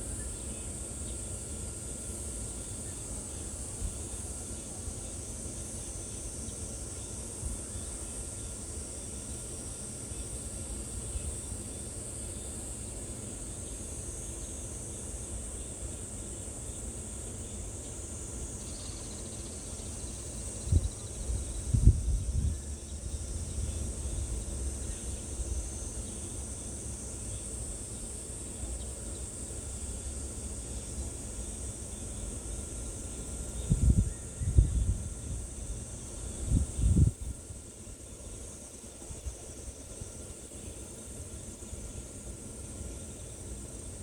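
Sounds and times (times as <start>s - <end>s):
high insect chorus: 0.0s - 44.0s.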